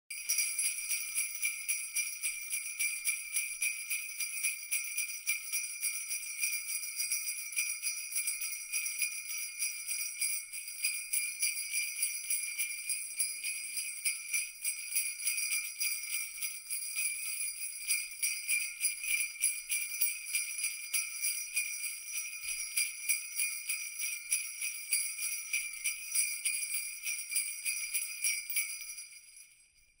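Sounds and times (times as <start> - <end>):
jingle bells shaking: 0.1 - 30.0.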